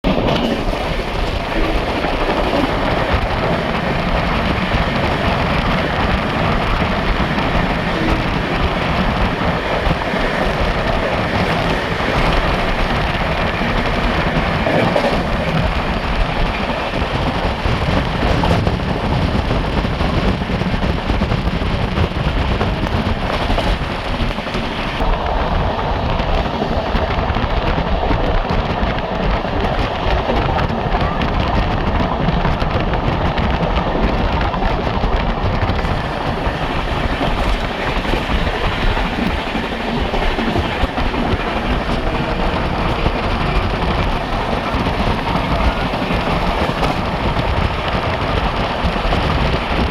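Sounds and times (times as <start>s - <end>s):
passenger train rumbling at speed: 0.0s - 49.9s.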